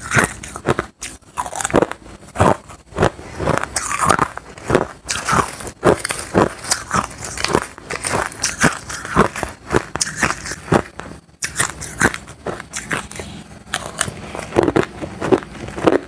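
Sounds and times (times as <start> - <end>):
person crunching ice: 0.0 - 16.0.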